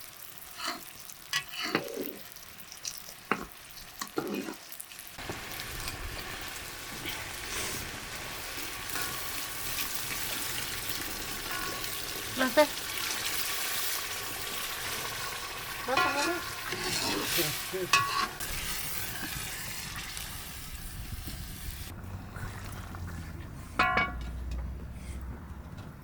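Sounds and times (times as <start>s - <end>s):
food sizzling in a pot: 0.0s - 21.9s.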